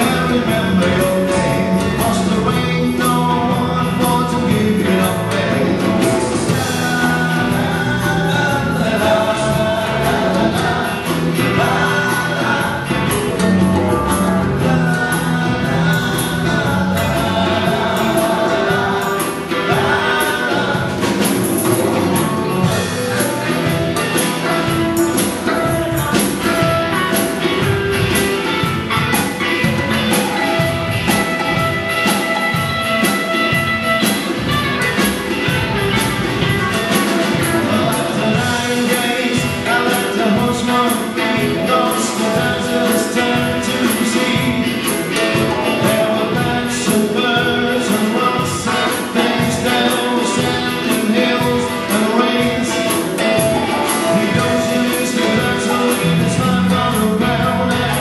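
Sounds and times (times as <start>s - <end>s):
person singing: 0.0s - 34.1s, 34.7s - 58.0s
drum beat: 0.0s - 58.0s
electric guitar: 0.0s - 58.0s.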